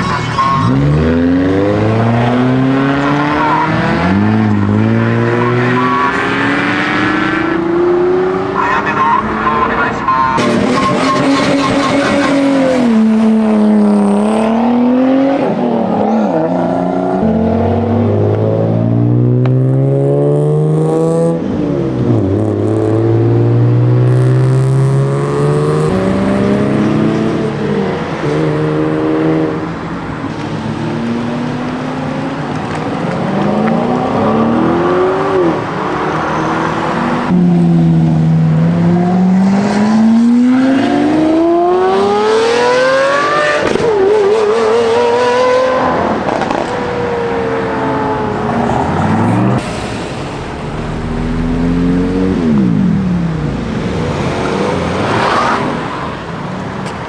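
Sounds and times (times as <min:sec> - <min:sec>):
car engines revving and accelerating: 0:00.0 - 0:57.0.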